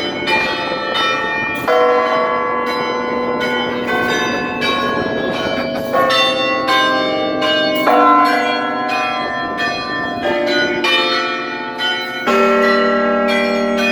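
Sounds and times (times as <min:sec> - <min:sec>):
carillon bells ringing: 0:00.0 - 0:13.9
loud low bell: 0:00.0 - 0:13.9.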